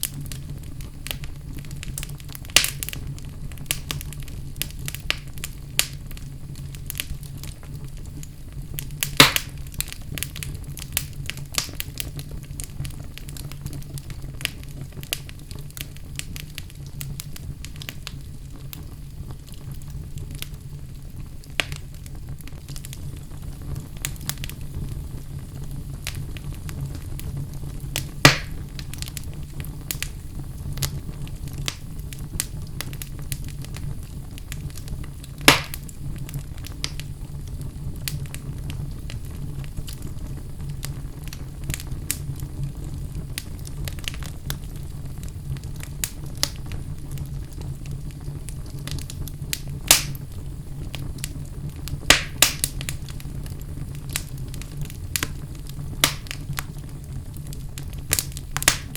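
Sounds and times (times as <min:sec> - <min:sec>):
flames rumbling: 0:00.0 - 0:58.9
sharp fire pops: 0:00.0 - 0:58.9
wood fire crackling: 0:00.0 - 0:58.9.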